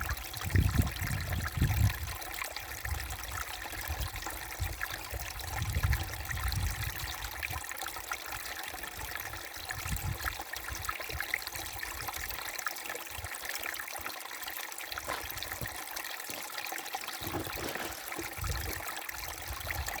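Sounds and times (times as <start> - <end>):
brook trickling over stones: 0.0 - 20.0.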